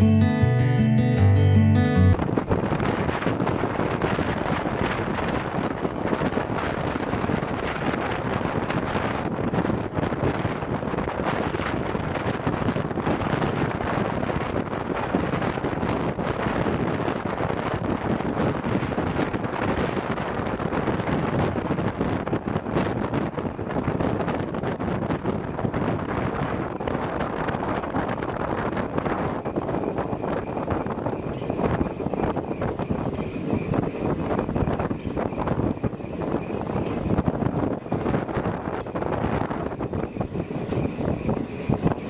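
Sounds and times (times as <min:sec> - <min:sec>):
train running on rails: 0:00.0 - 0:42.0
wind buffeting microphone: 0:02.2 - 0:42.0.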